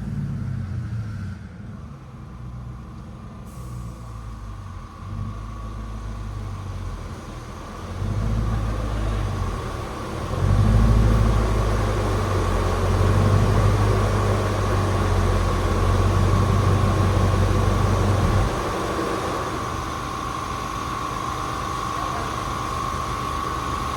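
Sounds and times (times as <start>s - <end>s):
truck engine drone: 0.0s - 23.9s.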